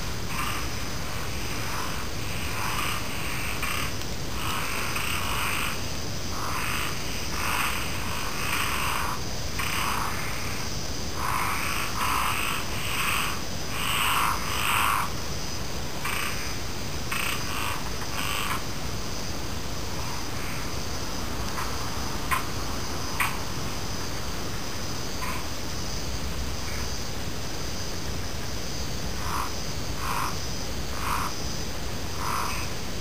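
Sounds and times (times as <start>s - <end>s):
frogs croaking: 0.0s - 33.0s
night insects trilling: 0.0s - 33.0s.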